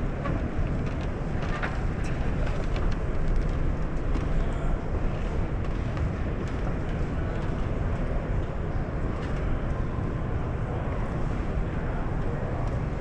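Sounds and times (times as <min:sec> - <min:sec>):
exhibition hall rumble: 0:00.0 - 0:13.0.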